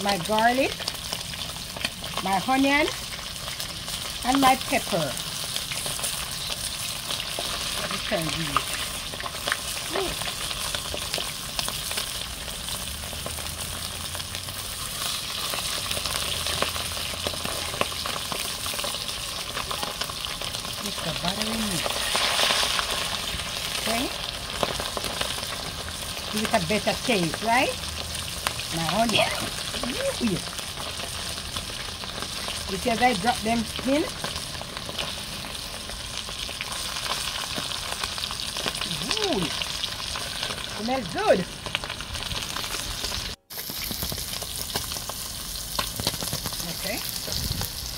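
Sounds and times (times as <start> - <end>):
fish sizzling in hot oil: 0.0 - 47.9.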